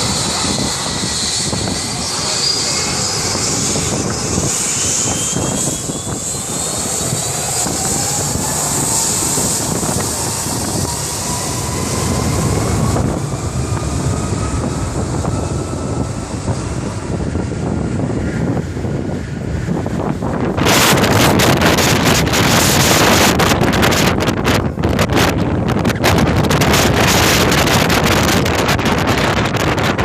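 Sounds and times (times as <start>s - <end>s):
jet airliner taking off: 0.0s - 30.0s.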